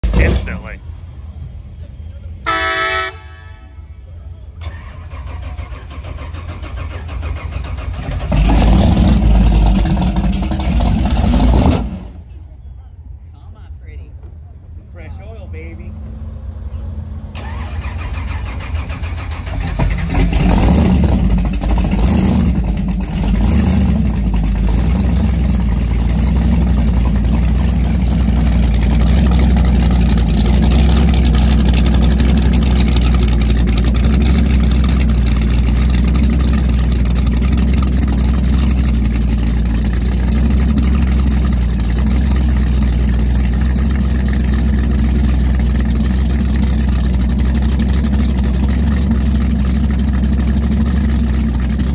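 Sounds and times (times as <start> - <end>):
powerboat engine cranking and idling: 0.0 - 0.8, 4.6 - 12.4, 17.4 - 51.9.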